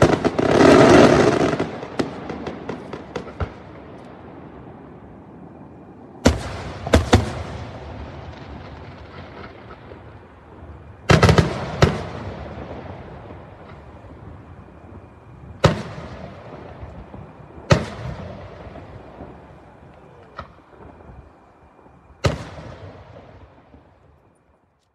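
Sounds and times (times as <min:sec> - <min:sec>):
fireworks bursting: 0:00.0 - 0:24.8.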